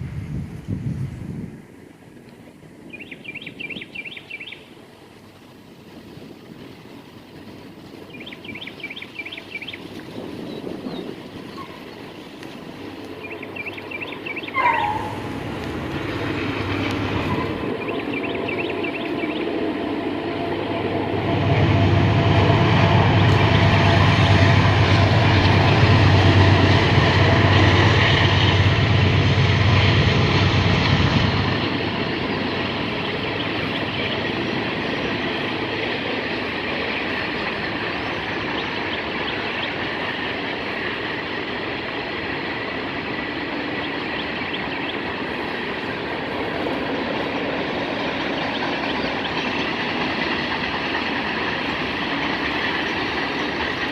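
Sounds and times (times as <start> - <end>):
train passing with rumble: 0.0 - 53.9
train wheels clickety-clack: 5.1 - 53.9.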